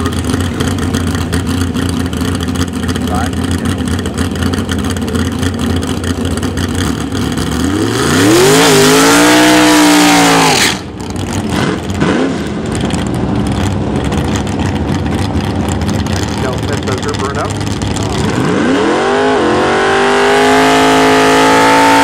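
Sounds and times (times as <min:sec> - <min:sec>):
dragster engine revving: 0:00.0 - 0:22.0
engines idling: 0:00.0 - 0:22.0.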